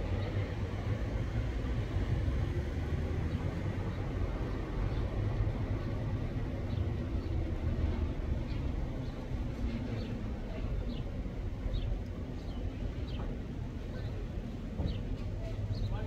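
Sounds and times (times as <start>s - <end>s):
vehicle rumbling: 0.0s - 16.0s.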